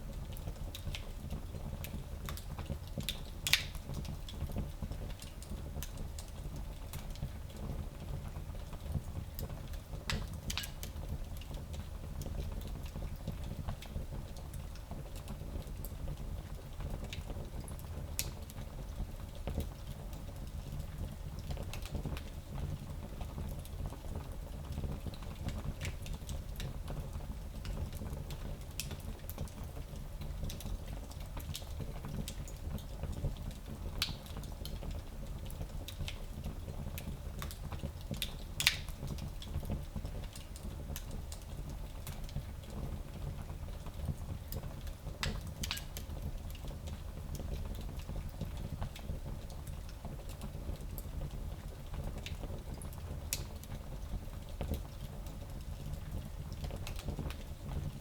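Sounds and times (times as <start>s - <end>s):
fire crackling and popping: 0.1s - 58.0s.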